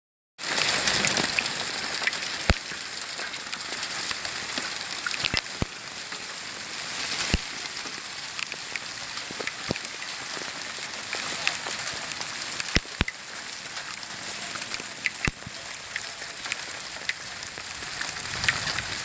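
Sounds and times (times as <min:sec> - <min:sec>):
hail and rain pelting down: 0:00.4 - 0:19.0
hailstones striking hard: 0:00.4 - 0:19.0.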